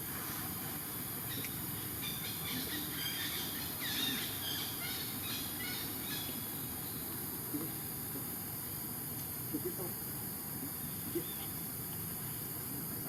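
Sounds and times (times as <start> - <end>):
background hiss and rumble: 0.0 - 13.0.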